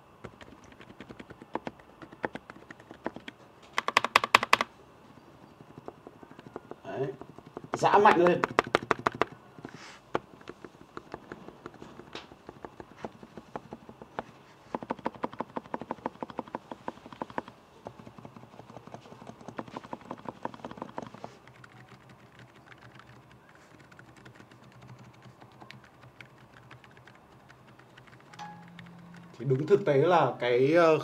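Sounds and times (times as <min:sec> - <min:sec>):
mechanical keyboard typing: 0:00.2 - 0:04.7, 0:05.6 - 0:29.8.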